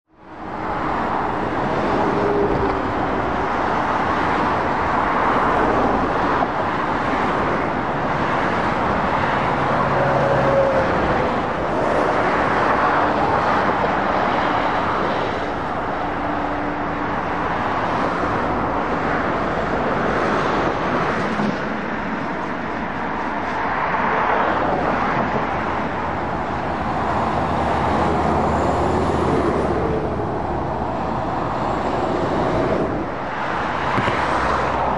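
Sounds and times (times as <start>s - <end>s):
cars passing: 0.1s - 34.9s
lorries passing: 0.2s - 34.9s.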